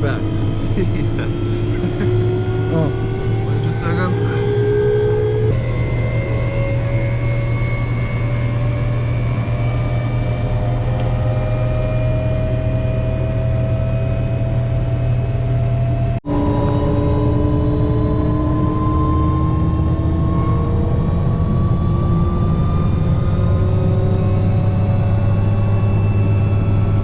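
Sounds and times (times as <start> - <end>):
helicopter rotor and turbine drone: 0.0 - 27.0
whining tones: 0.0 - 27.0.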